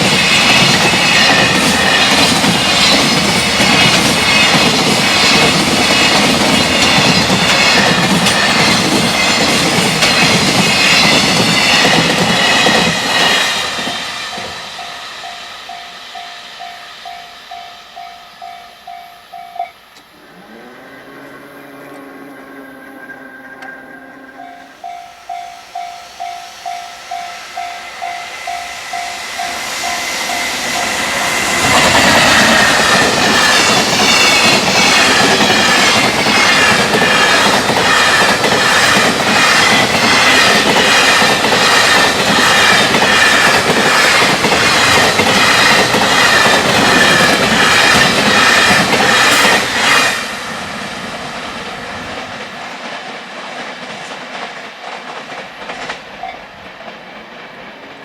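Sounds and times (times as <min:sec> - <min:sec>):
train wheels clacking on rails: 0:00.0 - 0:20.1, 0:21.8 - 0:58.0
level crossing warning bell: 0:00.0 - 0:20.2, 0:22.0 - 0:49.4
freight train passing: 0:00.0 - 0:58.0.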